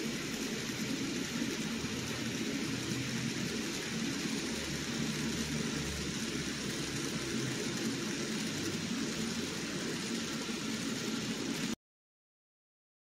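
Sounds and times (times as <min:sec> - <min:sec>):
model train motor hum: 0:00.0 - 0:11.8.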